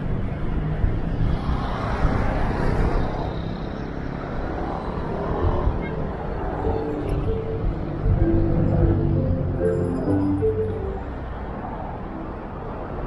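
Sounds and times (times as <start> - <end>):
moving vehicle rumble: 0.0 - 13.0
passing cars and motorcycles: 0.0 - 13.0.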